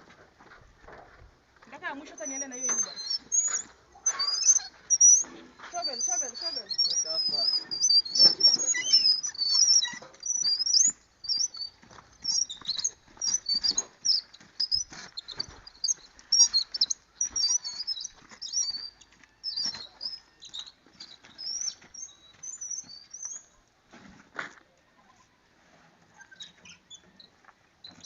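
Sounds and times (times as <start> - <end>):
small birds chirping: 1.7 - 23.7, 26.1 - 28.0.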